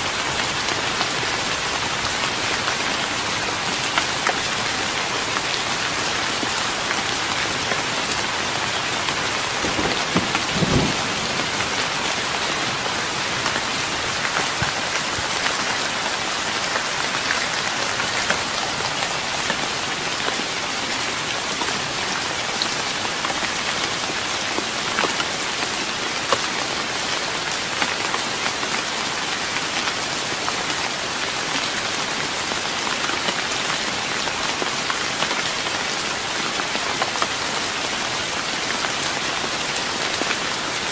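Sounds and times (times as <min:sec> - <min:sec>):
rain on a wooden deck: 0:00.0 - 0:40.9.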